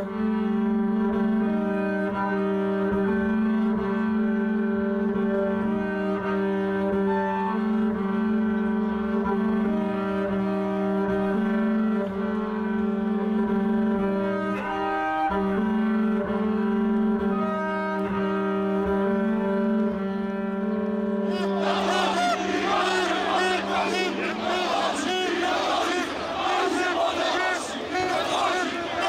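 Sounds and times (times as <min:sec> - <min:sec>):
low bowed strings music: 0:00.0 - 0:29.0.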